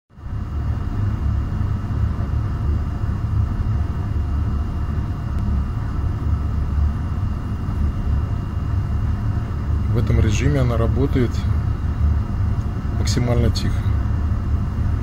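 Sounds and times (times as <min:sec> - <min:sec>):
tumble dryer humming: 0:00.1 - 0:15.0.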